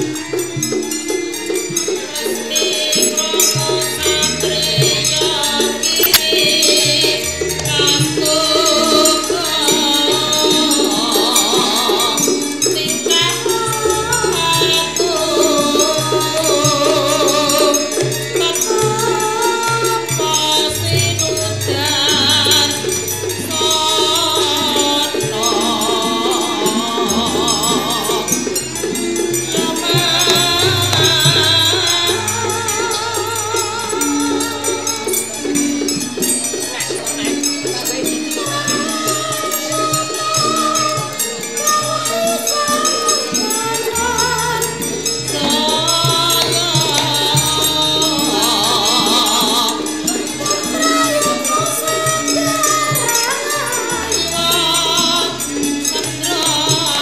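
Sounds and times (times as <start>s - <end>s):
gamelan music: 0.0s - 57.0s
person singing: 2.0s - 28.7s, 29.4s - 35.8s, 37.7s - 57.0s.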